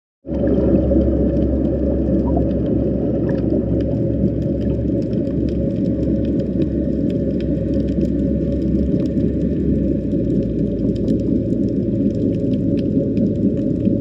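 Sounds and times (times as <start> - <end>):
underwater low drone: 0.2 - 14.0.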